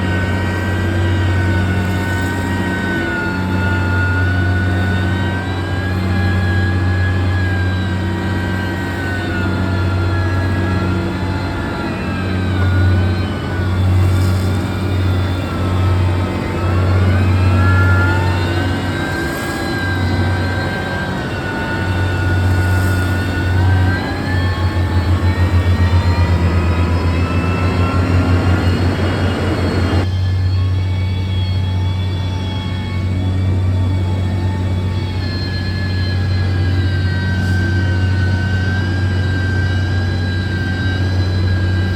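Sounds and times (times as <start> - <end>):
diesel engine running under load: 0.0 - 41.9
engine whine: 0.0 - 41.9.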